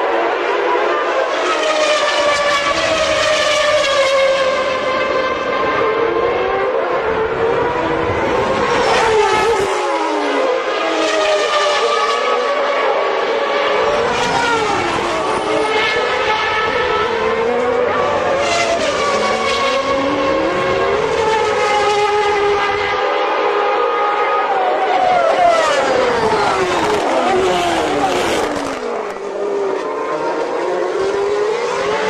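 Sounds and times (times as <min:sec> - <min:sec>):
racing car engines passing: 0:00.0 - 0:32.0.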